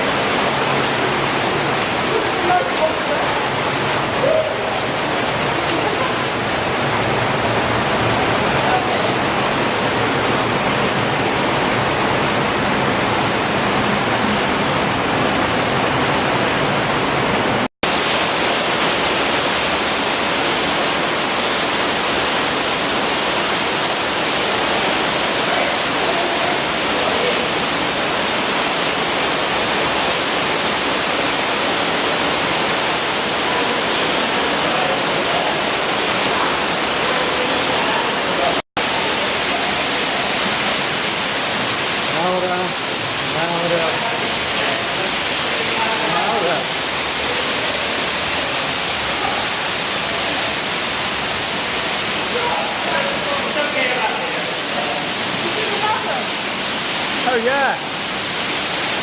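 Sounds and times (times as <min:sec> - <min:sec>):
cave stream rushing: 0:00.0 - 0:59.0.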